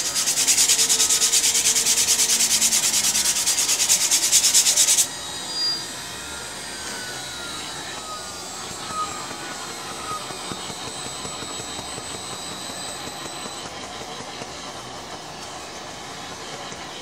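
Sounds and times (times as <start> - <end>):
machine running: 0.0 - 17.0
router bit cutting with scratchy hiss: 0.0 - 17.0.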